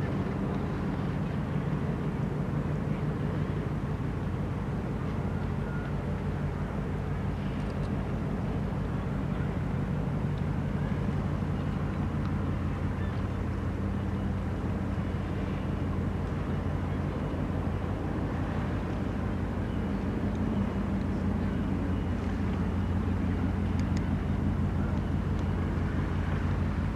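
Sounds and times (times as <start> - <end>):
ship engines droning: 0.0 - 26.9.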